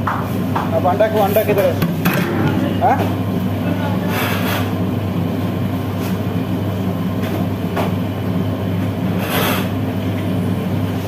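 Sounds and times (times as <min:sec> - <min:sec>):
extraction hood fan humming: 0:00.0 - 0:11.0.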